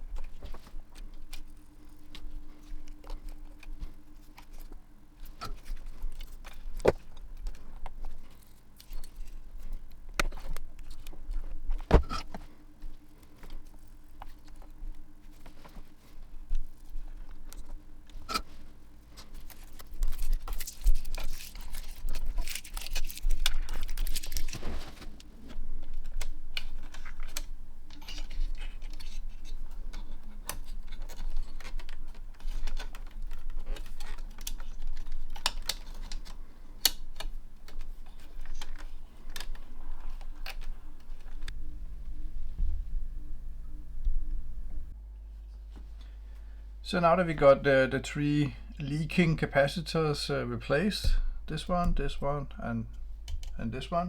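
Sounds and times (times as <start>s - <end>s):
rustling and scraping: 0.0s - 46.2s
faint steady hum: 0.0s - 54.0s.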